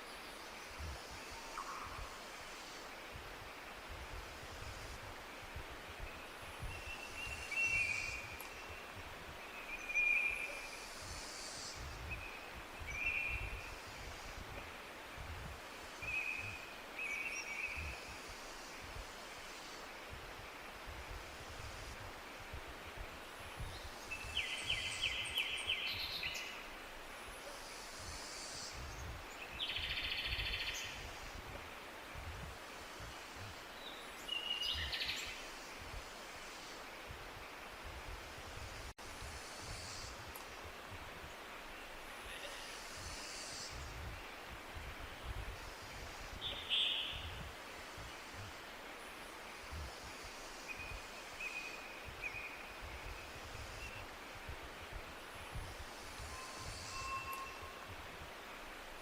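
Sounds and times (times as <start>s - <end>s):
high hiss: 0.0s - 59.0s.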